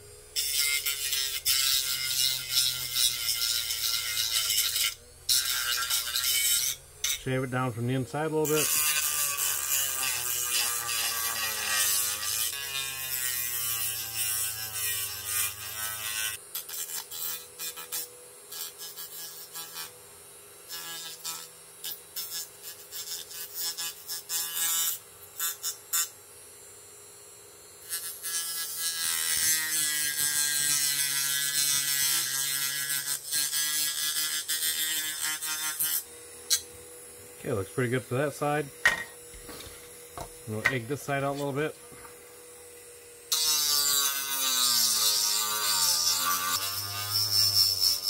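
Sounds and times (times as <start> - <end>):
rotary tool grinding plastic: 0.4 - 20.0, 27.8 - 48.0.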